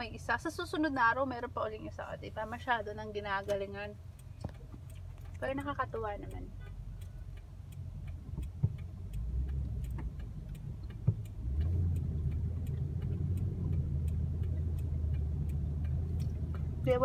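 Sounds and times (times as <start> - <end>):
car engine and road rumble: 0.0 - 17.0
light regular ticking: 0.0 - 17.0.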